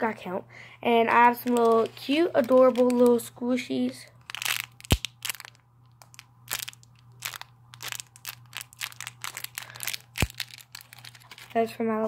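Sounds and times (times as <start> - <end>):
plastic wrapping crinkling: 1.1 - 3.3, 4.2 - 11.7.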